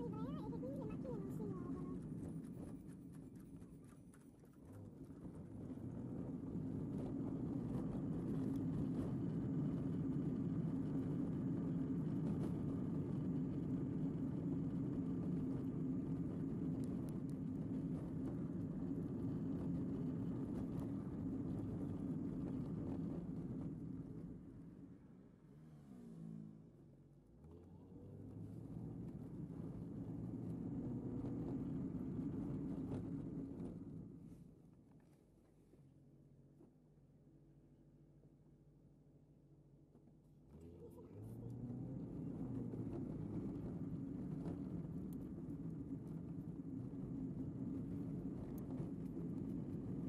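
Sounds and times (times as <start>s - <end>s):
car rumbling over cobblestones: 3.5s - 34.3s, 39.8s - 50.0s.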